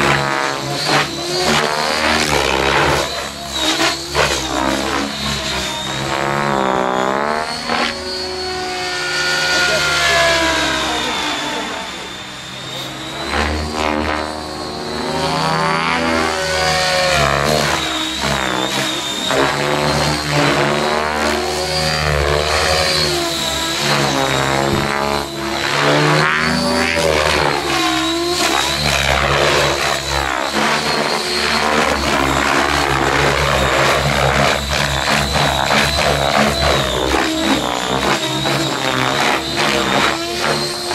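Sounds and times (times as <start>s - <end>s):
electric motor and gear whine: 0.0s - 40.9s
rc helicopter rotor thrum: 0.0s - 40.9s.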